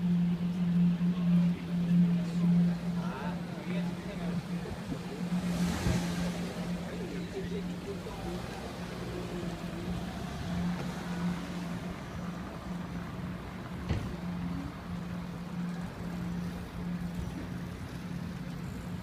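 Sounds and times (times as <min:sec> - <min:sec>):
street ambience hiss: 0:00.0 - 0:19.0
vehicle engine humming: 0:00.0 - 0:19.0.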